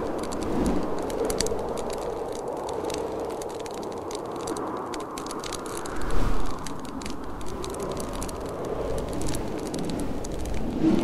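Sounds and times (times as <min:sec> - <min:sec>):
fireplace crackling and popping: 0:00.0 - 0:11.0
rushing blizzard wind: 0:00.0 - 0:11.0.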